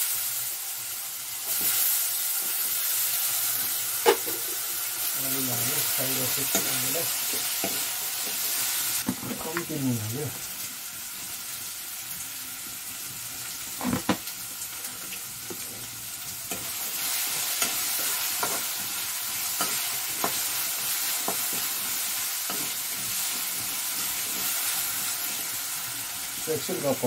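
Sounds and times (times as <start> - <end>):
potatoes sizzling in oil: 0.0 - 27.0.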